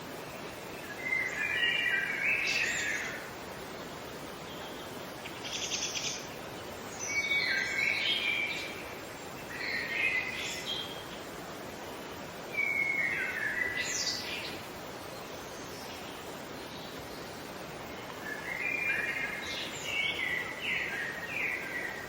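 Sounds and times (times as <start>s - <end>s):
steady background hiss: 0.0s - 22.0s
bird warbling song: 0.8s - 3.3s, 4.4s - 11.2s, 12.5s - 14.7s, 15.4s - 22.0s.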